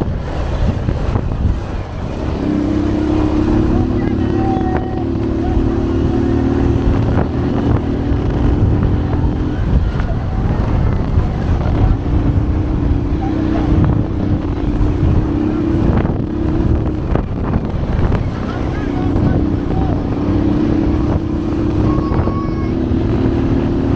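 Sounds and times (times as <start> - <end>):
motorcycle engine rumbling: 0.0 - 23.9
wind on microphone: 0.0 - 23.9.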